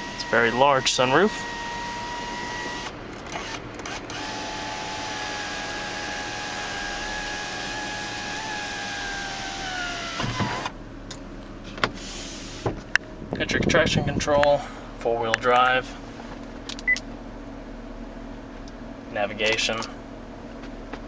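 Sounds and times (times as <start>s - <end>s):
sunroof motor whining: 0.0s - 21.0s.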